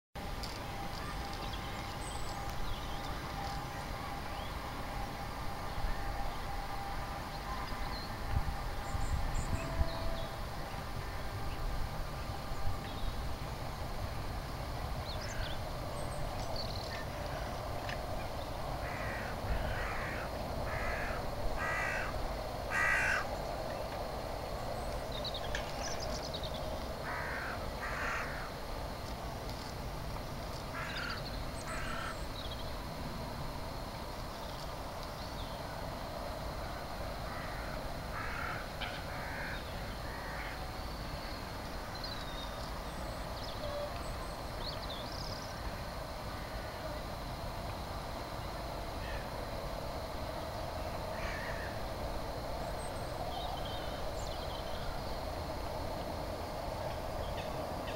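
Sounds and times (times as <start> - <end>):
low background hum: 0.2 - 57.9.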